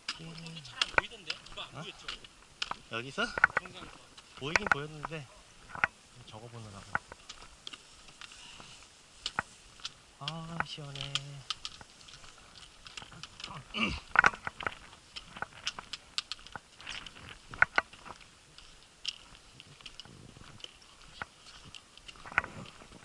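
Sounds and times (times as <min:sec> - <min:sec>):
footsteps crunching on gravel: 0:00.0 - 0:23.0.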